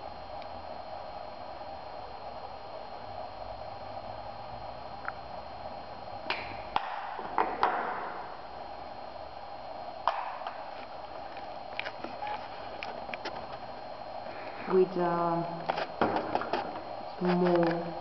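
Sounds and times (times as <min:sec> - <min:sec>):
steady room hum: 0:00.0 - 0:18.0.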